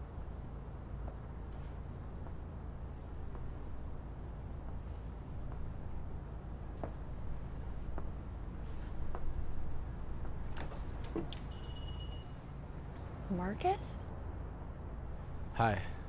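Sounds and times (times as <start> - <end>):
crickets chirping: 0.0 - 16.0
high insect trill: 0.0 - 16.0.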